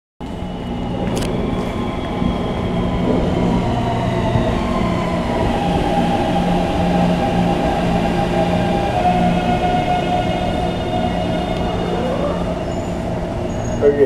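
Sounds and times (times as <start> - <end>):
electric train rumbling: 0.2 - 14.0.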